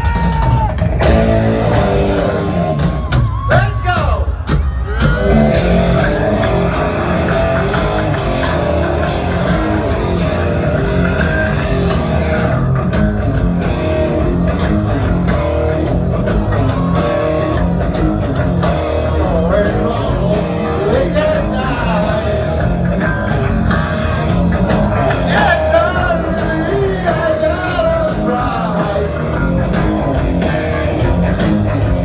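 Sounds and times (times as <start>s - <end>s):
distorted electric guitar: 0.0s - 3.5s, 4.9s - 32.0s
live heavy rock band: 0.0s - 32.0s.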